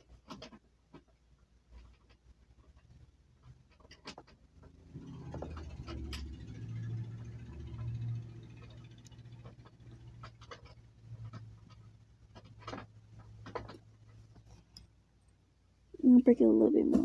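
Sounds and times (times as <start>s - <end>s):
small clicks and rustles: 0.0s - 15.4s.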